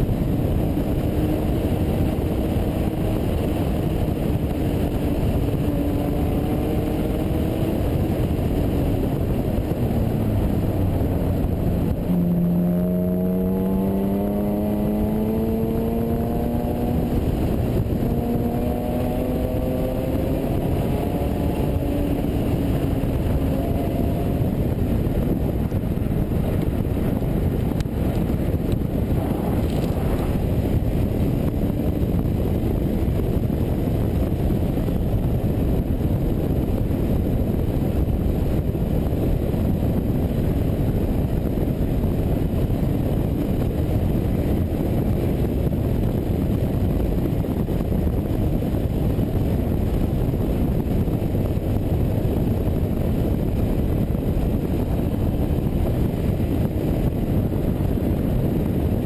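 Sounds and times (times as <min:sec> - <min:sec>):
sports car engine accelerating: 0:00.0 - 0:59.0
wind and road noise: 0:00.0 - 0:59.0.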